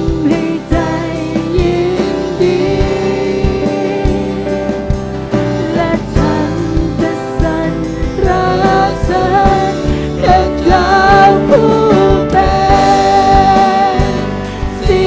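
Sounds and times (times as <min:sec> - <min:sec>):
group singing worship song: 0:00.0 - 0:15.0
keyboard: 0:00.0 - 0:15.0.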